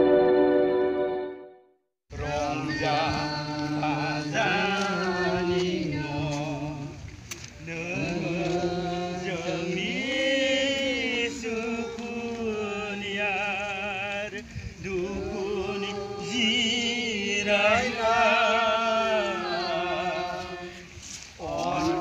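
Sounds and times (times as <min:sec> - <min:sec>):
voices singing slow chant: 0:02.1 - 0:22.0.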